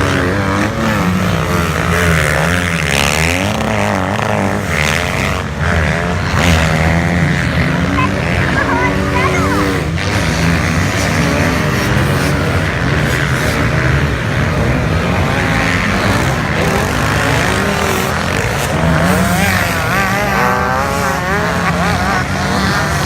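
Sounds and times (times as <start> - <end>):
motocross bikes revving: 0.0 - 23.0.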